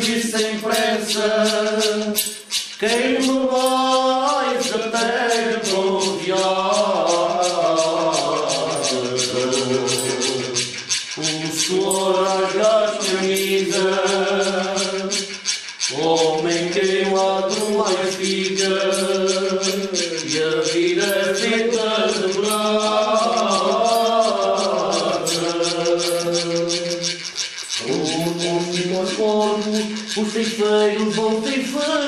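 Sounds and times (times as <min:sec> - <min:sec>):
men singing together: 0:00.0 - 0:32.0
rasping hand percussion beat: 0:00.0 - 0:32.0.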